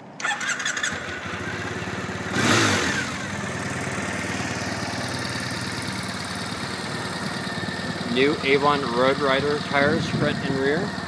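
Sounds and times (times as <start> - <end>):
motorcycle engine idling: 0.2 - 11.0.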